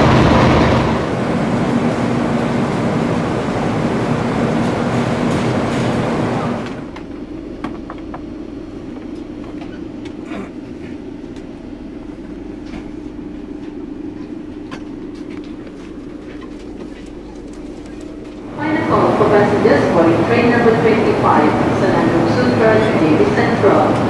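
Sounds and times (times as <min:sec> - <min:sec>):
low hum inside train coach: 0:00.0 - 0:24.0
stationary train rushing and humming: 0:00.0 - 0:24.0.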